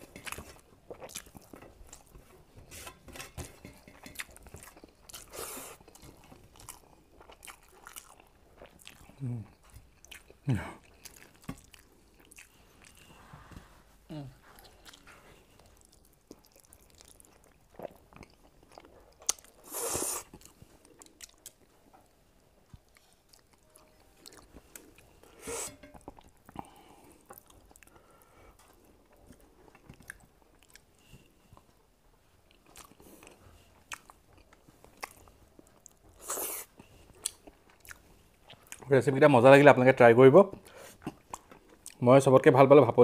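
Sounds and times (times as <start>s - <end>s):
man chewing and lip smacking: 0.0s - 2.4s, 3.9s - 13.1s, 14.5s - 31.8s, 32.4s - 38.9s, 40.6s - 42.0s.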